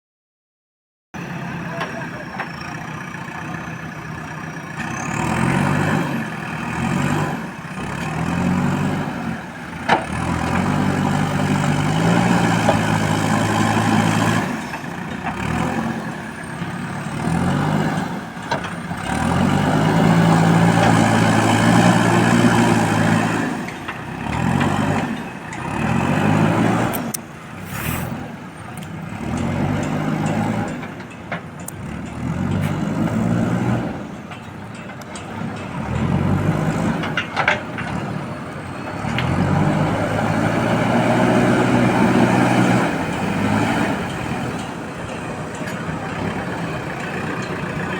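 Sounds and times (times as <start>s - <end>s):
diesel engine revving under load: 1.2s - 31.0s, 31.7s - 34.3s, 35.2s - 47.9s.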